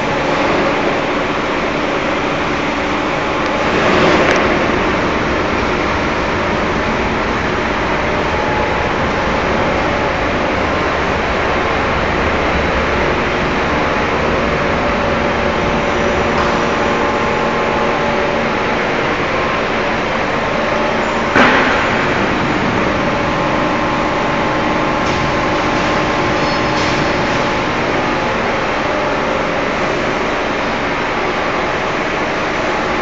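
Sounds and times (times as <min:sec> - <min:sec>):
machine running with held tones: 0:00.0 - 0:33.0.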